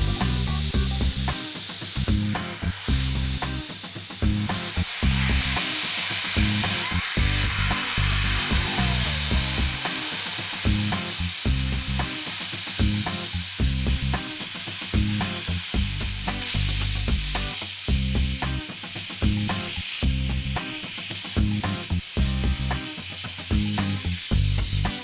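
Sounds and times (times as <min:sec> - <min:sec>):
music with beat and bass line: 0:00.0 - 0:05.8, 0:06.4 - 0:25.0
steady high hiss: 0:00.0 - 0:25.0.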